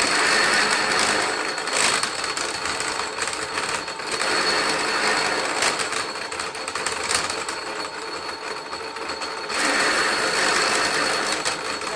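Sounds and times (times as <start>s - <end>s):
machine motor hum with whine: 0.0s - 11.9s
rods rasping through cutters: 0.0s - 11.9s.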